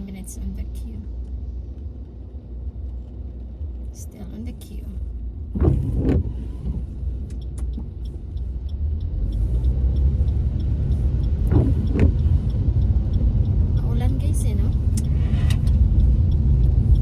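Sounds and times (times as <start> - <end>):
car cabin engine rumble: 0.0 - 17.0.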